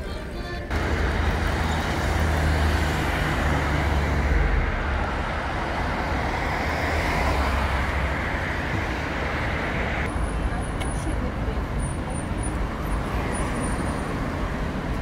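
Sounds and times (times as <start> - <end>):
road noise: 0.0 - 15.0
vehicle engines humming: 0.0 - 15.0.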